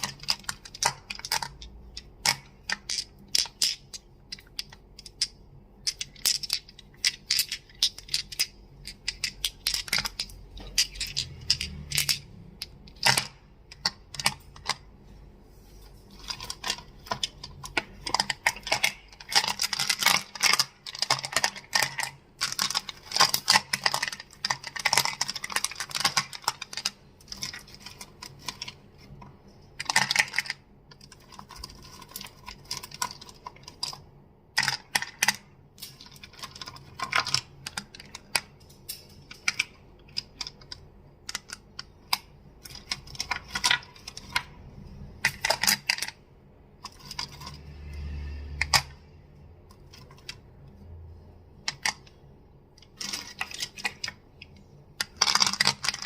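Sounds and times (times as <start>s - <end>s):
crystals clicking and clacking: 0.0s - 15.0s, 16.0s - 56.0s.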